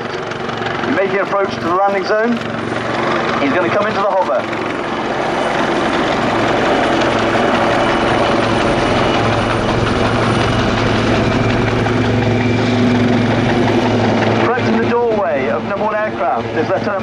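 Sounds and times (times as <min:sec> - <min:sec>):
helicopter rotor blades chopping: 0:00.0 - 0:17.0
low hum: 0:00.0 - 0:17.0
turbine engine whine: 0:00.0 - 0:17.0.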